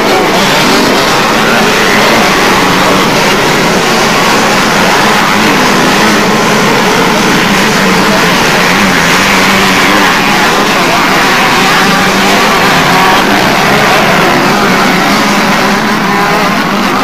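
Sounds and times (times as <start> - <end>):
motocross motorcycle engines racing: 0.0 - 17.0.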